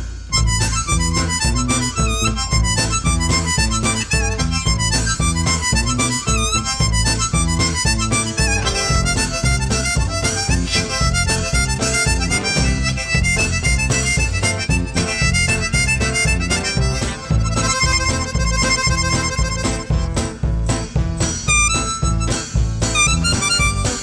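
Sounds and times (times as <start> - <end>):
instrumental music with steady beat: 0.0 - 24.0.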